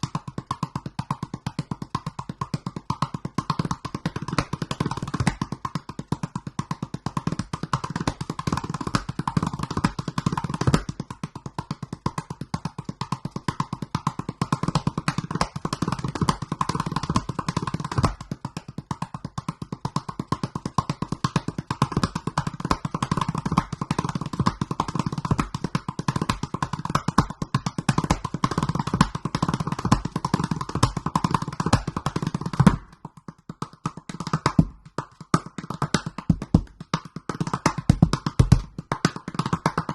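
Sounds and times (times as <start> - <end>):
gourd drum played by hand: 0.0 - 39.9.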